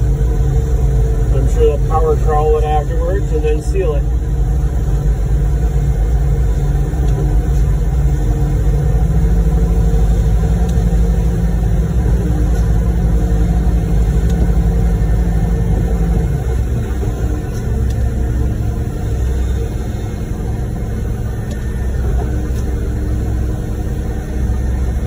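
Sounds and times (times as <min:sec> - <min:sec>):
diesel construction machinery rumbling: 0:00.0 - 0:25.0.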